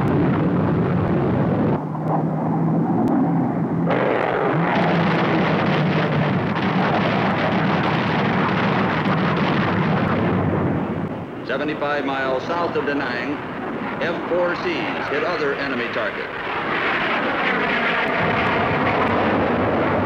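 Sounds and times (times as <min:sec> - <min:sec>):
low jet engine drone: 0:00.0 - 0:20.0
jet engine rushing hiss: 0:03.9 - 0:20.0.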